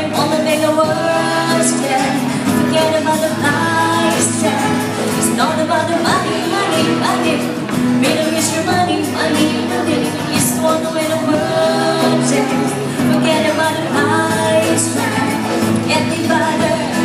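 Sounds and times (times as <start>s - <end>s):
live band pop song with singing: 0.0s - 17.0s.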